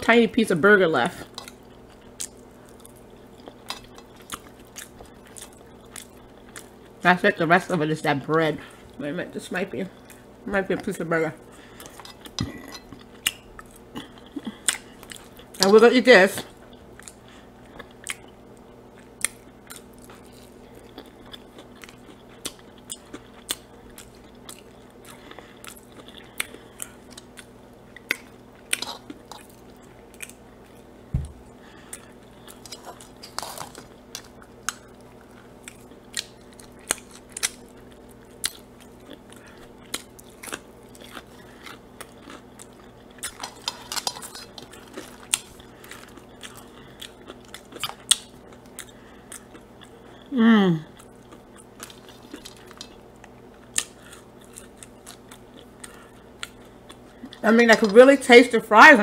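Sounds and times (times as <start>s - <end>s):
person chewing fried food: 1.2s - 7.0s, 11.4s - 15.7s, 16.5s - 57.4s.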